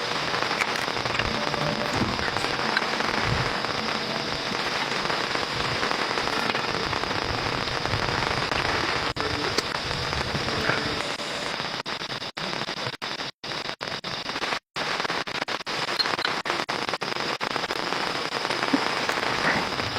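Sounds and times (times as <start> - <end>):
heavy rain falling: 0.0 - 11.7, 14.8 - 19.9.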